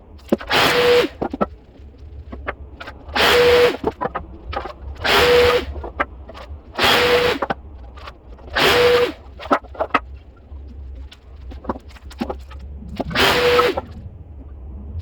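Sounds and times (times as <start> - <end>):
woodworking tool whining: 0.0 - 14.1.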